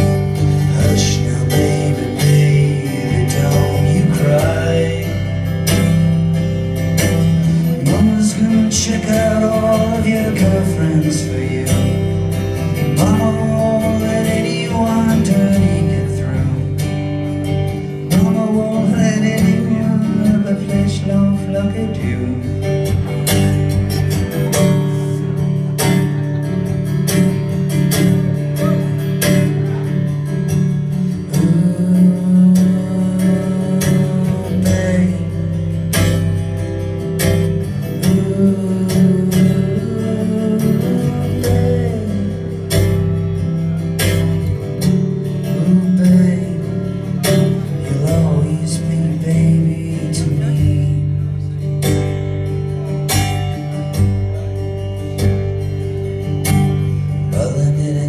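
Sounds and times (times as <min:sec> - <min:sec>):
man singing: 0:00.0 - 0:23.7, 0:28.4 - 0:58.0
acoustic guitar strumming: 0:00.0 - 0:58.0.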